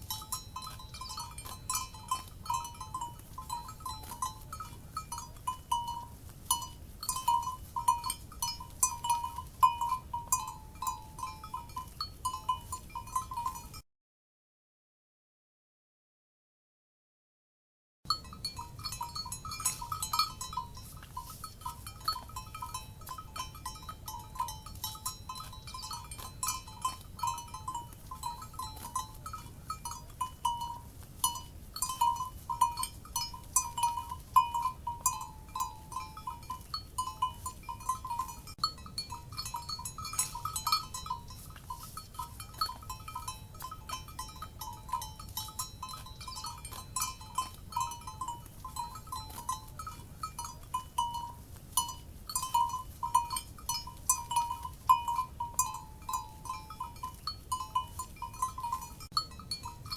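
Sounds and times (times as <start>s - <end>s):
cowbells clanking: 0.0s - 13.8s, 18.1s - 59.9s.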